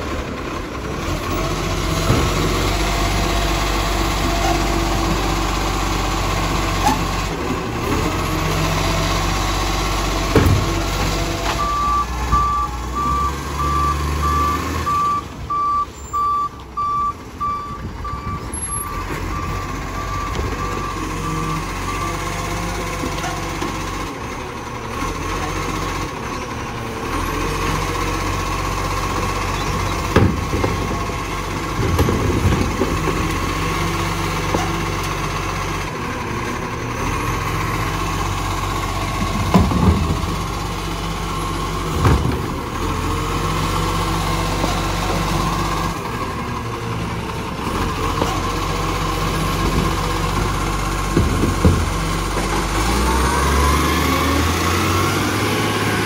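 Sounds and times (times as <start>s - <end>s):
garbage truck diesel engine: 0.0s - 56.0s.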